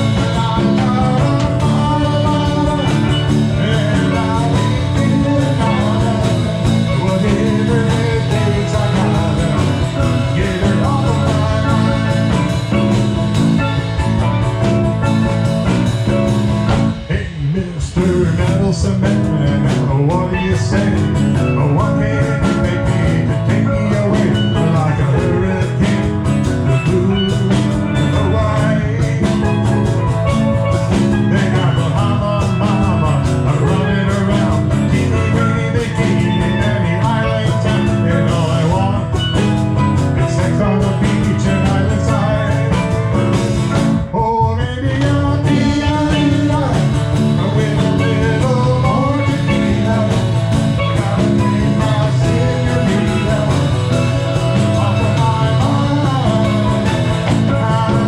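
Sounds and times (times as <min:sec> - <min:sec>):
live rock country band: 0:00.0 - 0:58.0
person singing: 0:00.0 - 0:58.0.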